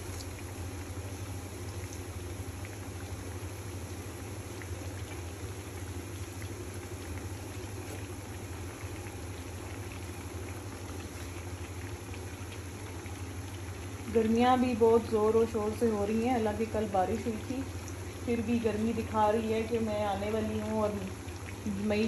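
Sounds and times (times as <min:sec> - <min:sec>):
hot oil sizzling: 0:00.0 - 0:22.0
low steady hum: 0:00.0 - 0:22.0
faint crackles: 0:03.8 - 0:22.0.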